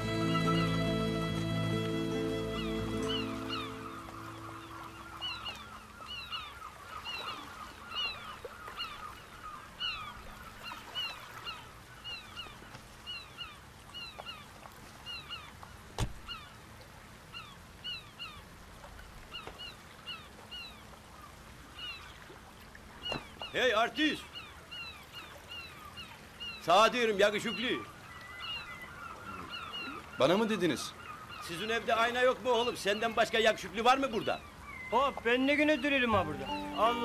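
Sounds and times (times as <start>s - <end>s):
faint outdoor hiss: 0.0s - 10.7s, 11.3s - 37.0s
seagulls calling: 0.0s - 16.6s, 19.3s - 22.2s, 22.9s - 37.0s.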